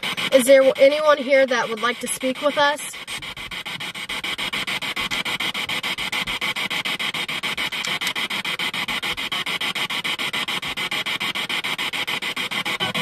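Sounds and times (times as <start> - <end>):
chopping radio static: 0.0 - 13.0.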